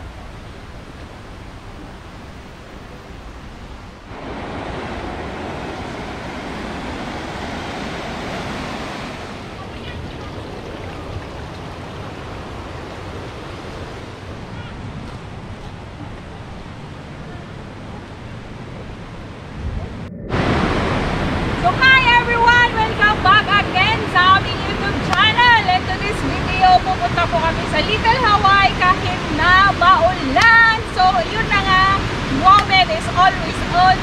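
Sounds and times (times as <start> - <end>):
rushing outdoor noise: 0.0 - 34.0.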